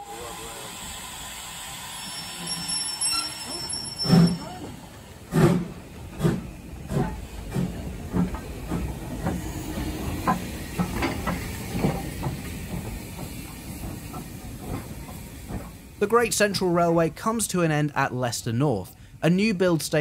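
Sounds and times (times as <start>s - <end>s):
steam hissing: 0.0s - 16.1s
steam locomotive chuffing beat: 0.0s - 16.8s.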